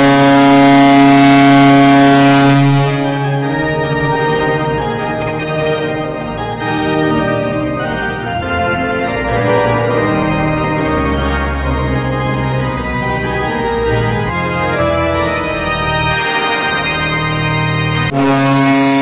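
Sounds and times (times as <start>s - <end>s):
organ playing celebration tune: 0.0s - 19.0s.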